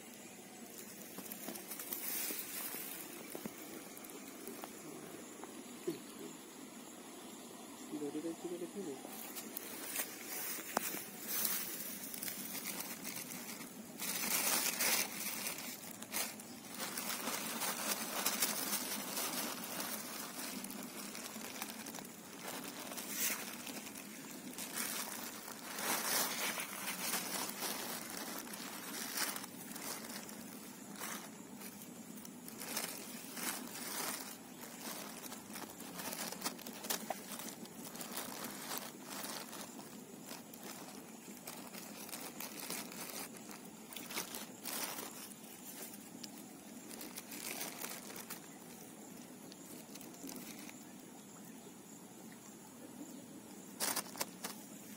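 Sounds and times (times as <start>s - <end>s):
plastic bag crinkling: 0.6s - 4.9s, 9.2s - 50.9s, 53.8s - 54.9s.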